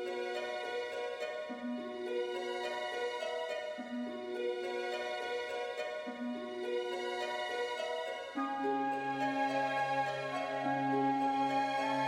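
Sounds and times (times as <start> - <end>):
gentle repeating background music: 0.0 - 12.0.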